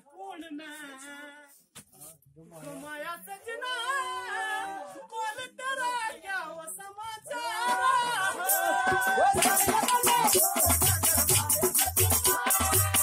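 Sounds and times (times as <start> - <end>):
person singing folk song: 0.0 - 1.6, 2.7 - 13.0.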